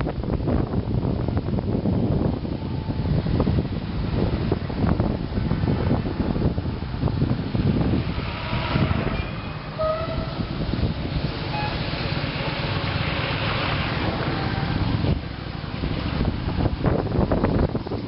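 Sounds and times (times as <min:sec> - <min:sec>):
motorcycle engine and road noise: 0:00.0 - 0:18.0.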